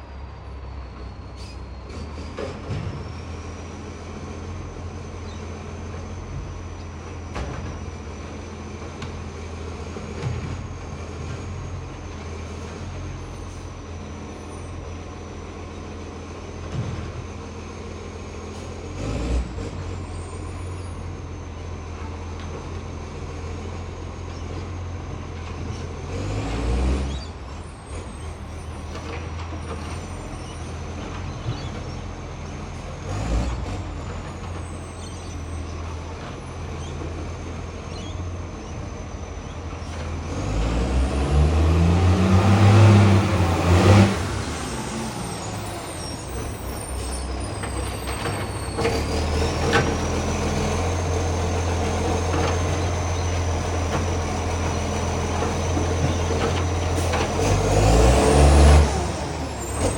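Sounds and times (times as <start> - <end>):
diesel engine low drone: 0.0 - 59.9.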